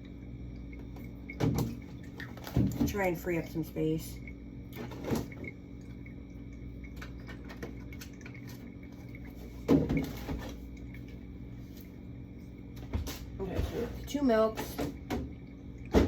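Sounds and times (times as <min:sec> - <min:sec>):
milk pouring between jugs: 0:00.7 - 0:16.0.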